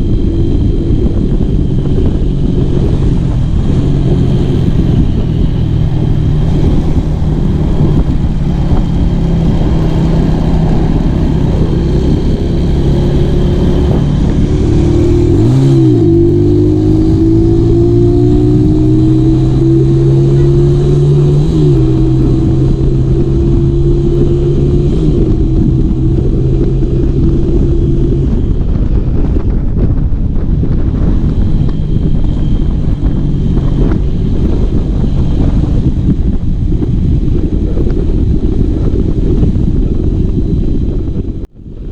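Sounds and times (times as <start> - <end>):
motorcycle engine accelerating: 0.0 - 41.9
wind rush: 0.0 - 41.9.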